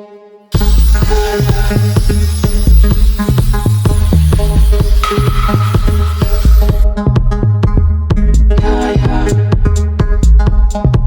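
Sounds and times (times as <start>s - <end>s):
electronic music with drum-machine beat: 0.5s - 11.0s.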